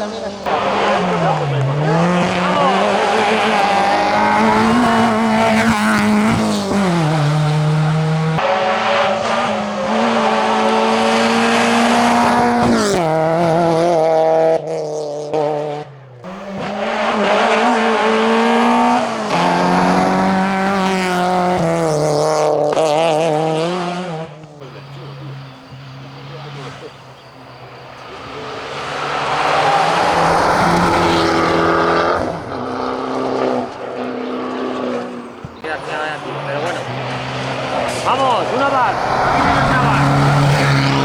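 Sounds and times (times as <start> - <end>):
car engine revving hard: 0.0 - 41.0.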